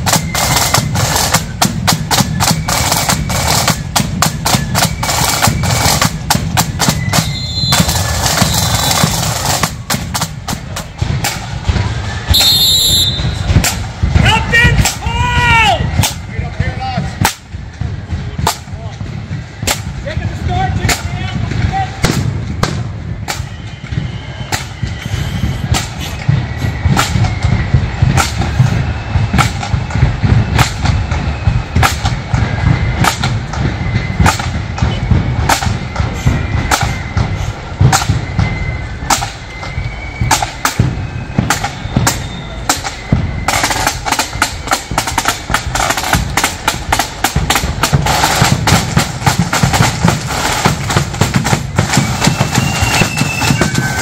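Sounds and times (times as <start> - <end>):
bass drum beat: 0.0 - 54.0
rapid snare drumming: 0.0 - 54.0.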